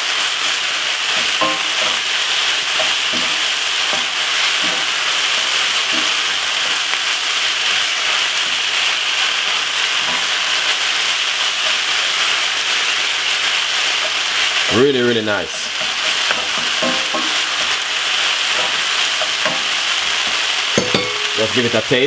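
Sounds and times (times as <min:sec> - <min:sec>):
meat sizzling in a frying pan: 0:00.0 - 0:22.0
wooden spatula stirring: 0:01.0 - 0:12.8, 0:13.5 - 0:21.5.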